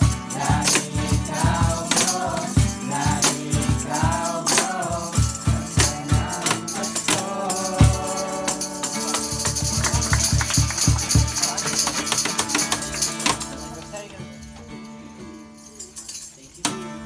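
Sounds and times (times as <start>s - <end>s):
group of voices singing: 0.0s - 14.2s
cajon beats: 0.0s - 15.3s
strummed acoustic guitar: 0.0s - 16.0s, 16.6s - 17.0s
tambourine jingle: 0.0s - 17.0s.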